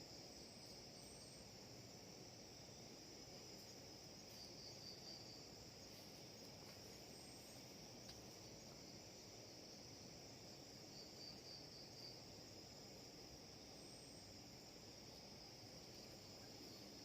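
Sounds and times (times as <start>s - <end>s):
insects chirring: 0.0s - 17.0s
low background hiss: 0.0s - 17.0s.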